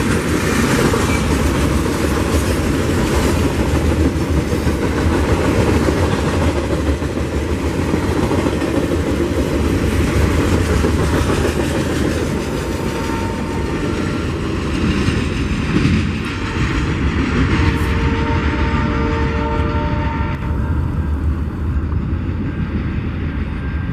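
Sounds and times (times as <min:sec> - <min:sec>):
freight cars rolling on rails: 0:00.0 - 0:19.4.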